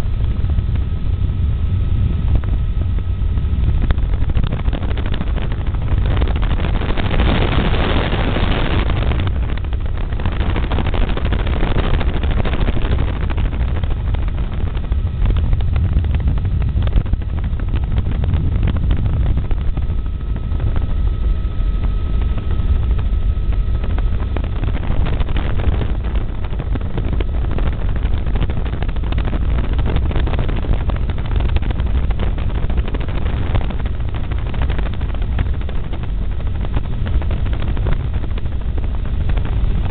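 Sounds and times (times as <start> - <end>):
helicopter rotor drone: 0.0 - 39.9
wind rushing over microphone: 0.0 - 39.9.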